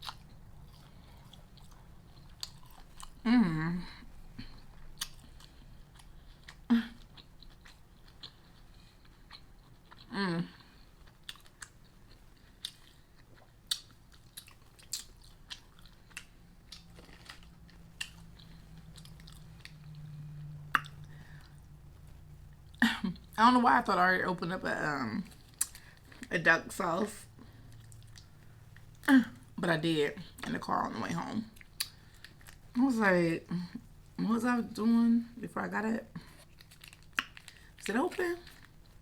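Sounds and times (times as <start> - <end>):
chewing crispy food: 0.0 - 23.4, 24.7 - 26.3, 27.2 - 32.8, 35.7 - 39.0.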